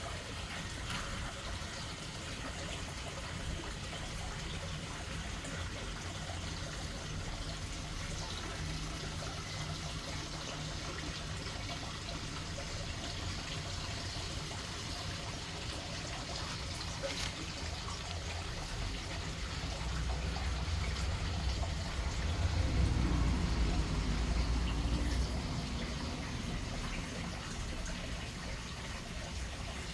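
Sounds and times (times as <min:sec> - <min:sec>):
water falling and splashing: 0:00.0 - 0:29.9.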